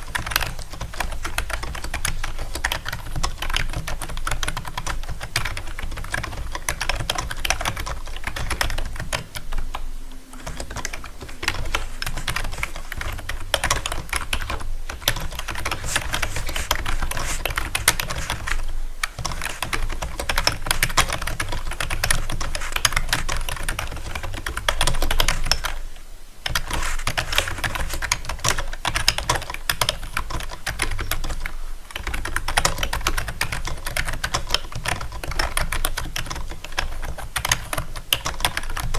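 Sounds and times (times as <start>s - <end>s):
rapid keyboard typing: 0.0s - 25.8s, 26.4s - 38.9s.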